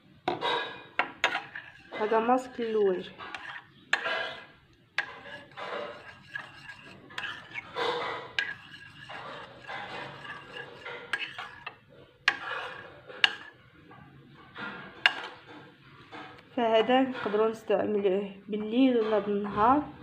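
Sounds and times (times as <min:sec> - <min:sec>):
spoon scraping ceramic bowl: 0:00.3 - 0:13.6, 0:14.6 - 0:17.4.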